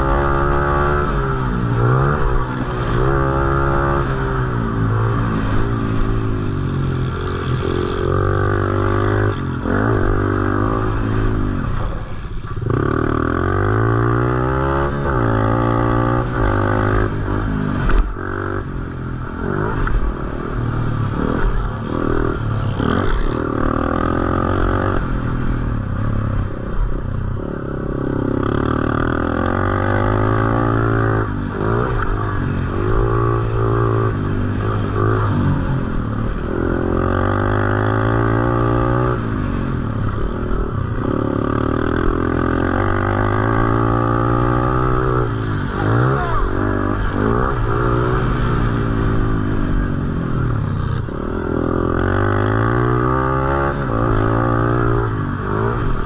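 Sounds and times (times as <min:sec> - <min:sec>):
motorbike engine revving: 0:00.0 - 0:26.6, 0:27.4 - 0:56.0.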